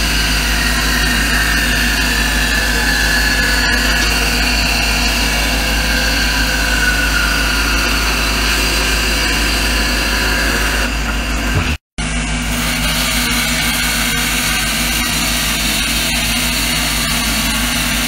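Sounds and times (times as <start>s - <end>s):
bandsaw cutting wood: 0.0s - 18.0s.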